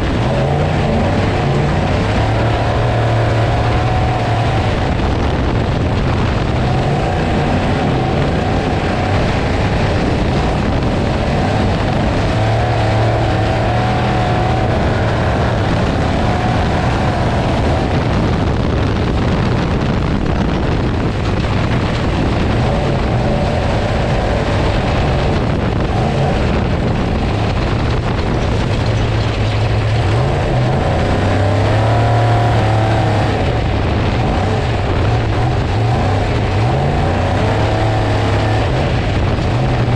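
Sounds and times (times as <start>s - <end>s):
heavy wind: 0.0s - 39.9s
road noise: 0.0s - 39.9s
truck engine running hard: 0.0s - 39.9s.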